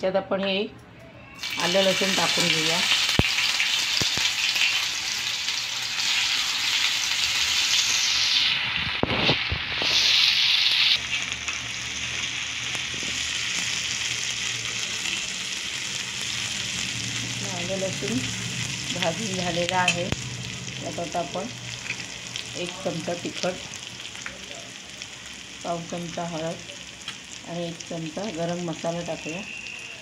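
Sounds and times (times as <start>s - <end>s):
paste sizzling in hot oil: 1.4s - 30.0s.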